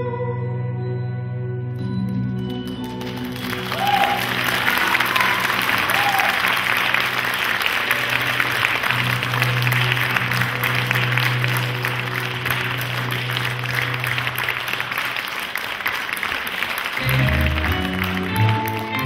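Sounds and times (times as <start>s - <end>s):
audience applauding: 2.7s - 19.0s.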